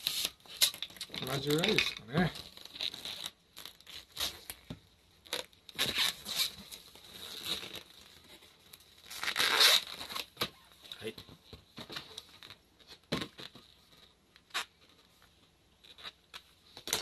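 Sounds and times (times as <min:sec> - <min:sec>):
balloons rubbing and twisting: 0:00.0 - 0:10.8, 0:11.8 - 0:17.0.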